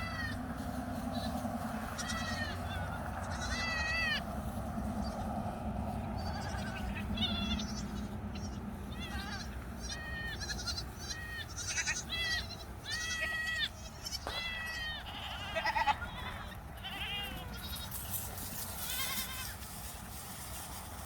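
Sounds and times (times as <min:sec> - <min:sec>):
goats bleating: 0:00.0 - 0:00.4, 0:01.1 - 0:04.6, 0:06.0 - 0:19.8.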